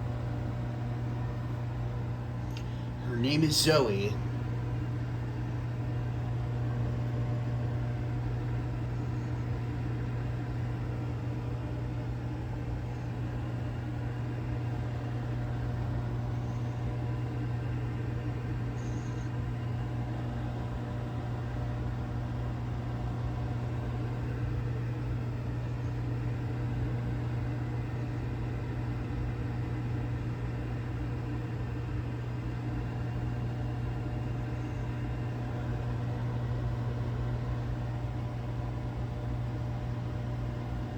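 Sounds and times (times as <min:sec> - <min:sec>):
microwave oven humming: 0:00.0 - 0:40.9.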